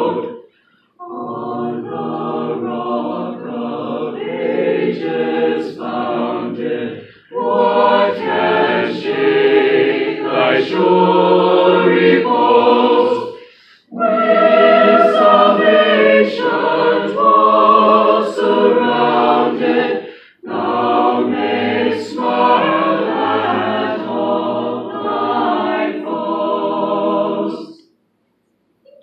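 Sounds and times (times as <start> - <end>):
choir singing a hymn a cappella: 0.0 - 27.9.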